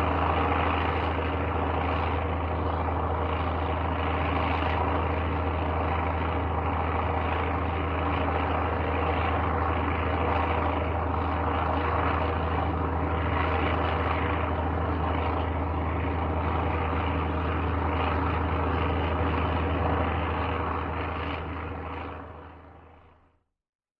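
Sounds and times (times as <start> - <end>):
airplane engine drone: 0.0 - 23.4.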